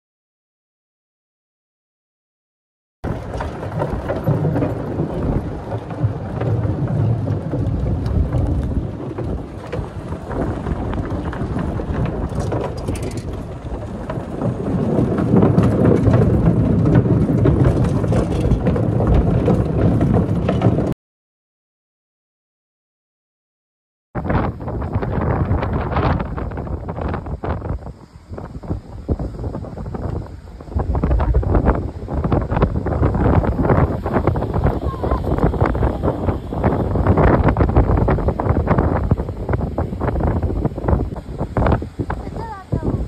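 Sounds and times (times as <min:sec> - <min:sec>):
wind buffeting microphone: 0:03.0 - 0:21.0, 0:24.2 - 0:43.0.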